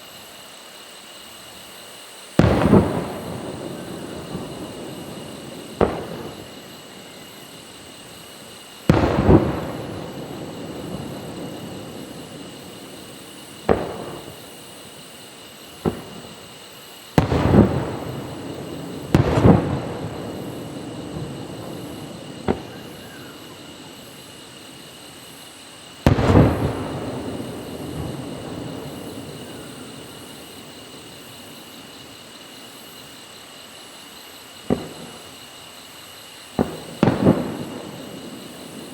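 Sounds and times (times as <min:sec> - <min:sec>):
firework shells bursting: 0:00.2 - 0:33.2, 0:34.0 - 0:38.9.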